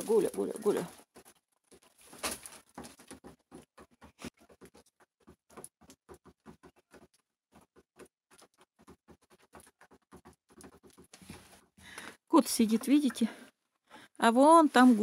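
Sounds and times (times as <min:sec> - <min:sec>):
pigeons pecking on wooden board: 0:00.0 - 0:14.0.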